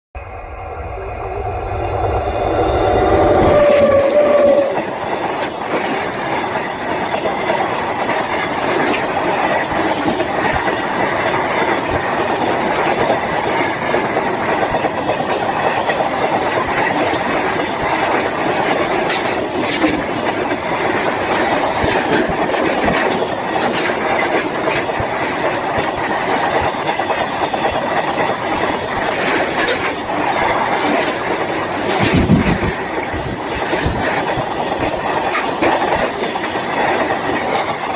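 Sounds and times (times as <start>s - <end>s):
train rumble: 0.2s - 37.9s
train wheels clattering: 1.7s - 37.9s.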